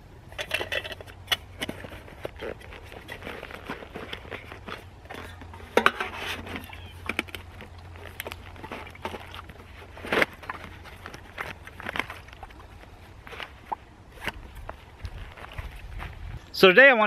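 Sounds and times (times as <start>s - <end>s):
metal canteen and pot clinking: 0.3s - 14.8s.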